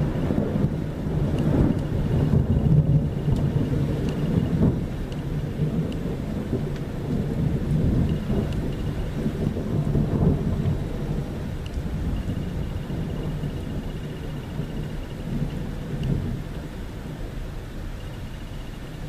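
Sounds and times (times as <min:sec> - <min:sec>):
rain falling: 0:00.0 - 0:19.0
thunder rumbling: 0:00.0 - 0:19.0.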